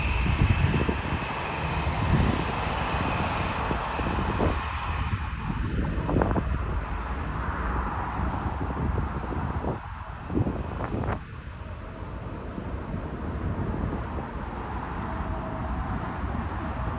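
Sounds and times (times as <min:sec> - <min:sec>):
jet engines rumbling with whine: 0:00.0 - 0:16.9
wind buffeting microphone: 0:00.0 - 0:16.9.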